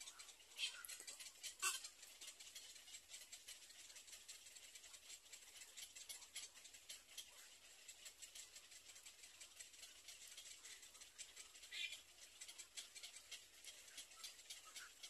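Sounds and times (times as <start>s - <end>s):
light ticks: 0.0s - 15.0s.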